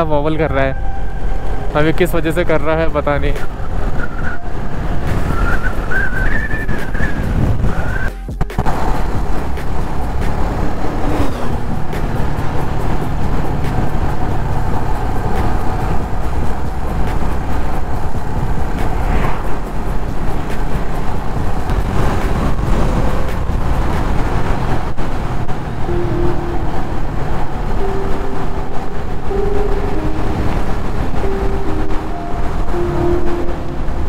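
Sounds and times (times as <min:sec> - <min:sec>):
motorcycle engine drone: 0:00.0 - 0:34.0
wind noise on microphone: 0:03.3 - 0:34.0.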